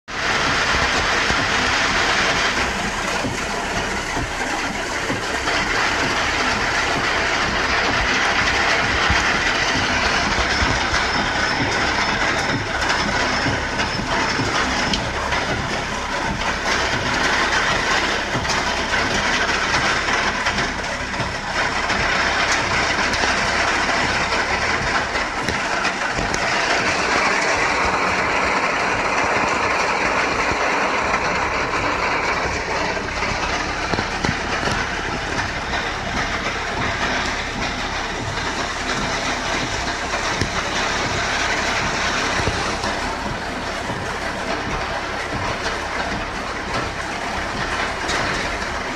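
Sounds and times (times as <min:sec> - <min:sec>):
heavy rain on car roof: 0:00.0 - 0:48.9.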